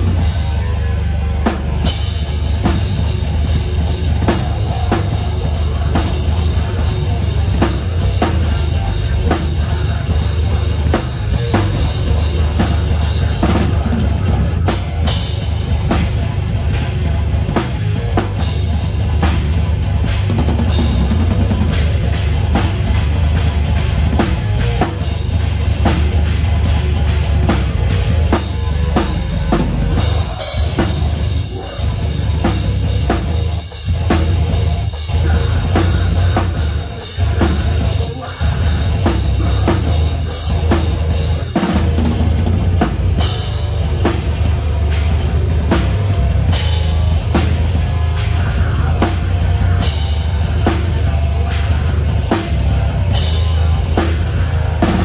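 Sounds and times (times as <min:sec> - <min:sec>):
heavy bass: 0:00.0 - 0:55.0
rock band playing: 0:00.0 - 0:55.0.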